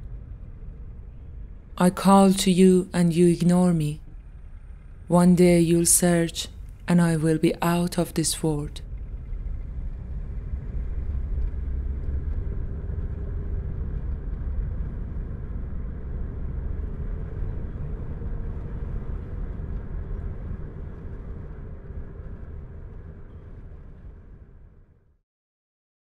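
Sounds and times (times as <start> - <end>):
low background rumble: 0.0 - 24.6
faint steady hum: 0.0 - 24.8.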